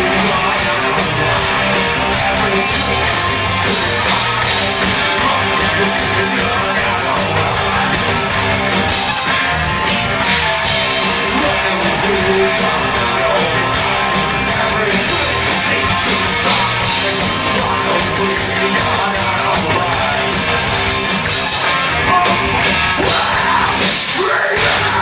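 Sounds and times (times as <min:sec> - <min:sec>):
bass guitar: 0:00.0 - 0:25.0
distorted electric guitars: 0:00.0 - 0:25.0
drums: 0:00.0 - 0:25.0
shouted vocals: 0:00.0 - 0:25.0.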